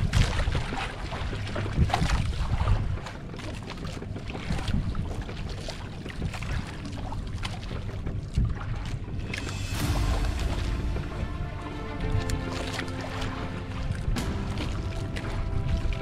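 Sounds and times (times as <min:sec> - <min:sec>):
small splashes: 0:00.0 - 0:16.0
water lapping against hull: 0:00.0 - 0:16.0
wind buffeting microphone: 0:00.0 - 0:16.0.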